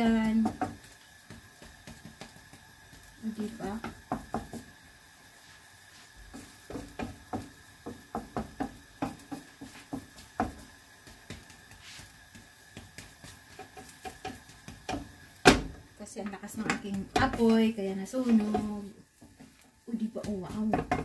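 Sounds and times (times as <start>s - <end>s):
utensils knocking on cookware: 0.0s - 4.6s, 6.3s - 21.0s.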